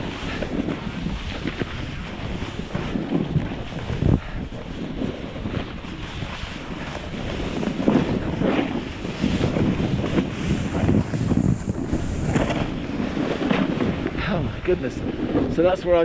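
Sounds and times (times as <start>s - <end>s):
skis scraping through snow: 0.0s - 16.0s
wind buffeting microphone: 0.0s - 16.0s.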